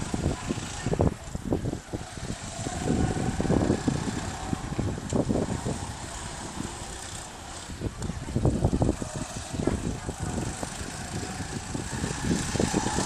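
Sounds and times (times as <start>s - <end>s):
go-kart engines running: 0.0s - 13.0s.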